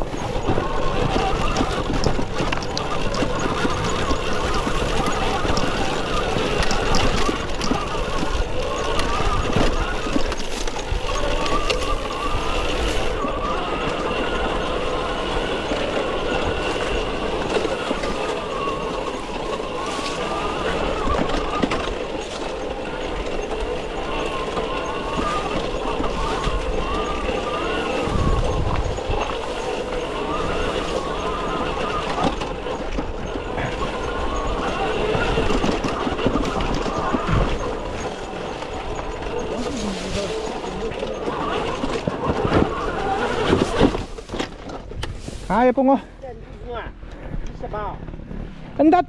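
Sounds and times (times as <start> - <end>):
electric motorcycle motor whining: 0.0 - 45.8
bike knocking and rattling: 0.0 - 49.0.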